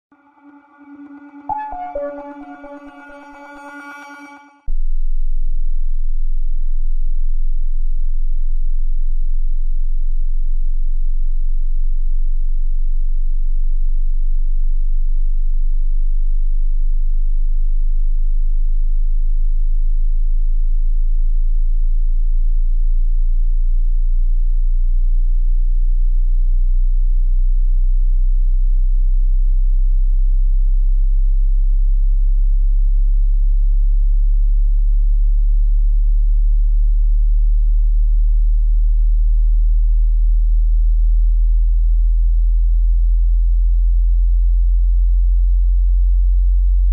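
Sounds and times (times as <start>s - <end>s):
low sine test tone sweep: 0.1s - 46.9s.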